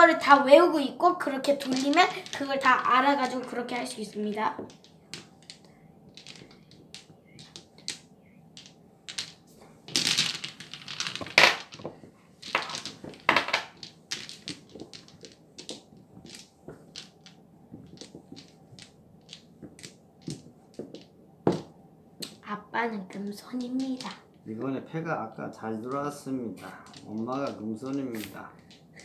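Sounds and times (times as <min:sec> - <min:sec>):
game tiles clicking together: 0:01.6 - 0:03.5, 0:04.1 - 0:21.6, 0:23.5 - 0:24.2, 0:25.9 - 0:29.0.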